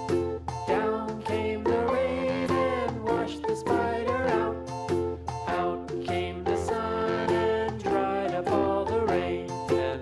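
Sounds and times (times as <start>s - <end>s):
upbeat children's music: 0.0s - 10.0s.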